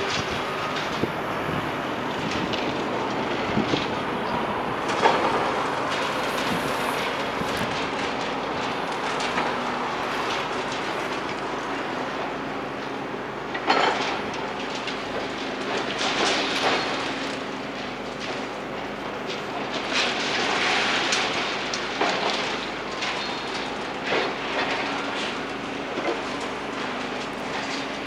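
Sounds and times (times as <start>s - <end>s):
engine hum: 0.0s - 28.0s
rubble crunching and clattering: 0.0s - 28.0s.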